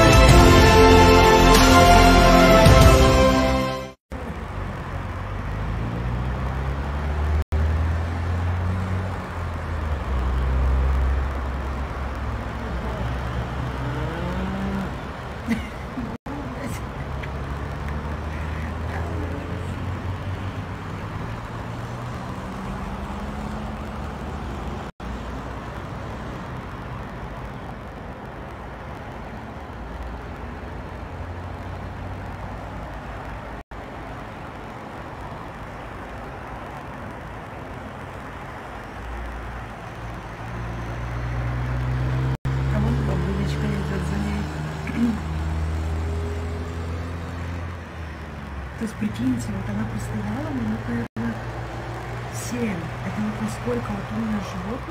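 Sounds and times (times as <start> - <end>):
cars passing on road: 0.0 - 54.9.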